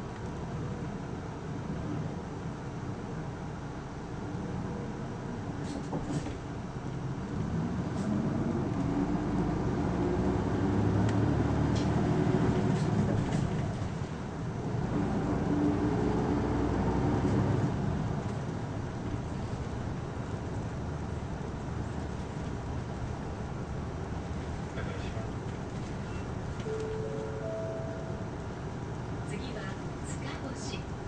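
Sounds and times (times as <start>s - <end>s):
bus diesel engine: 0.0s - 31.0s.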